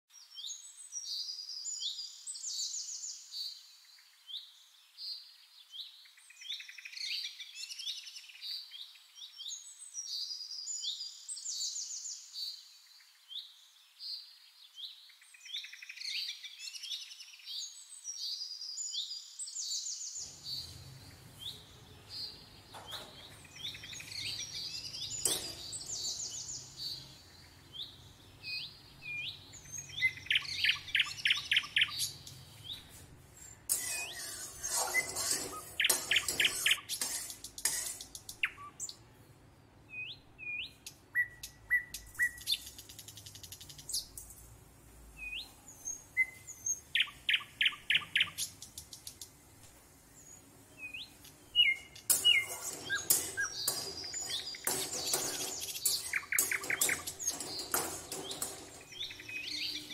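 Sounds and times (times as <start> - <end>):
small birds chirping: 0.1 - 59.9.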